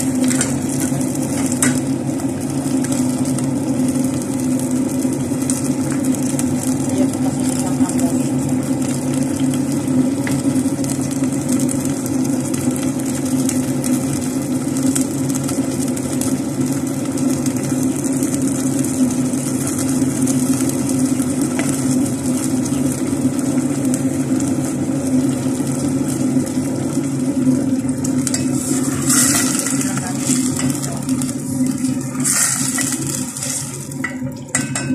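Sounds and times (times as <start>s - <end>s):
sauce bubbling and sizzling: 0.0s - 34.9s.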